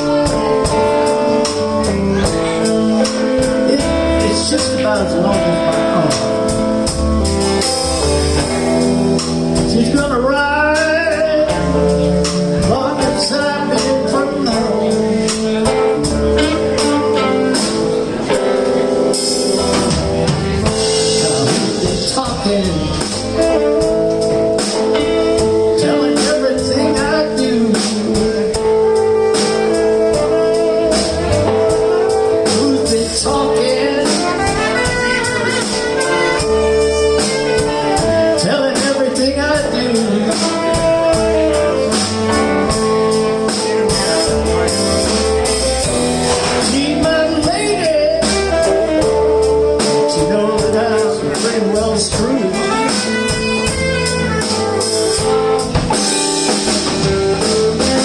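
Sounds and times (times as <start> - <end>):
live blues band playing: 0.0 - 58.0
steady drum beat: 0.0 - 58.0.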